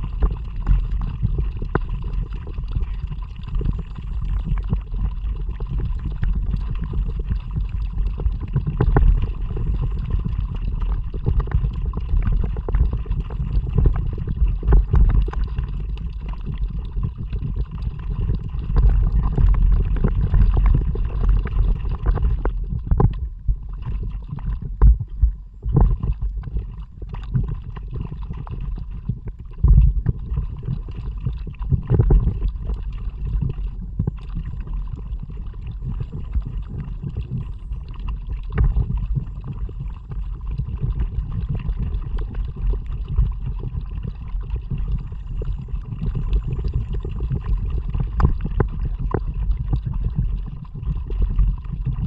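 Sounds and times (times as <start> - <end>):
water splashing along kayak hull: 0.0 - 52.0
wind rumble on microphone: 0.0 - 52.0.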